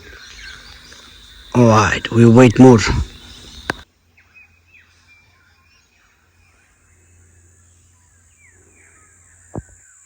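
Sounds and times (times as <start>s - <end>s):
distant bird calls: 0.0s - 10.0s.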